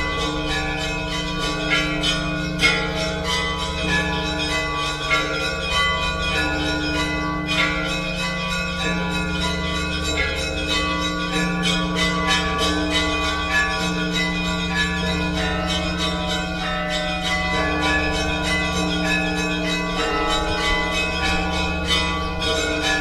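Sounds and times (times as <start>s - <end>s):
church bells pealing: 0.0s - 23.0s
hum of deep bells: 0.0s - 23.0s.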